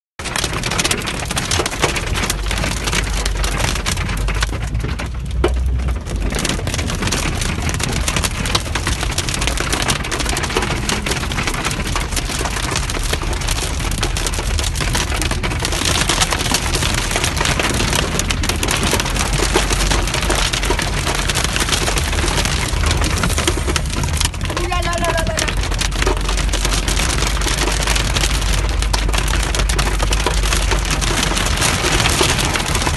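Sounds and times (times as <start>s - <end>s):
hail and rain on car: 0.2s - 32.9s.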